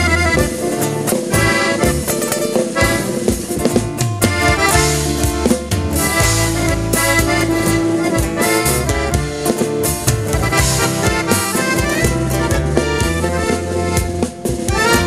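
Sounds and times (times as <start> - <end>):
accordion melody: 0.0 - 15.0
drum kit beat: 0.0 - 15.0
strummed guitar: 0.0 - 15.0.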